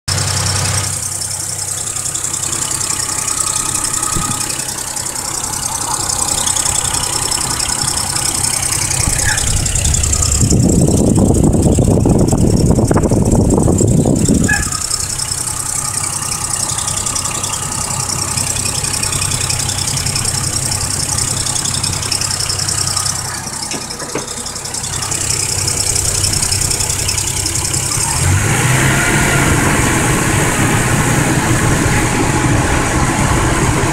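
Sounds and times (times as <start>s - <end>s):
car engine running: 0.0s - 33.9s
squeak from engine bay: 0.2s - 28.2s.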